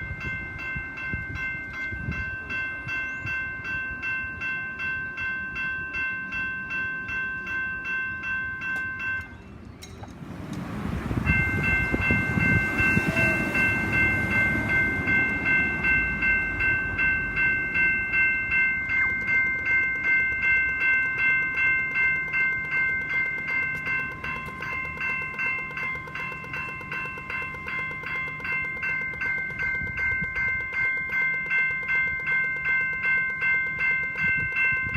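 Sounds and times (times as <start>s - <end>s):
level crossing bells ringing: 0.0s - 34.9s
tram rumbling and clattering: 0.0s - 34.9s.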